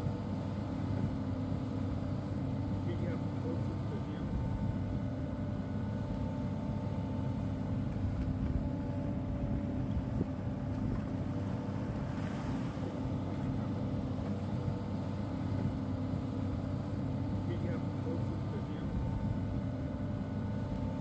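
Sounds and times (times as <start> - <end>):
engine humming steadily: 0.0 - 21.0.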